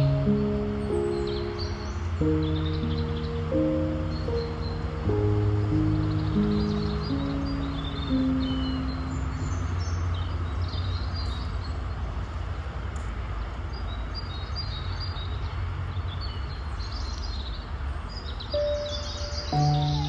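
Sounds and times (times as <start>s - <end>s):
birds chirping: 0.0s - 12.4s, 13.7s - 20.0s.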